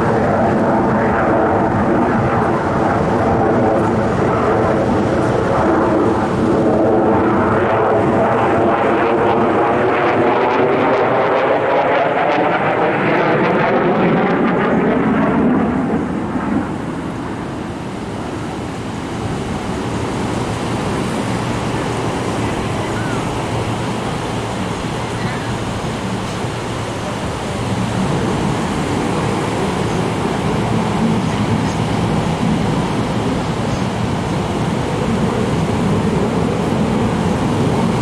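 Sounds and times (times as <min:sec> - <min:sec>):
airplane flying past: 0:00.0 - 0:38.0.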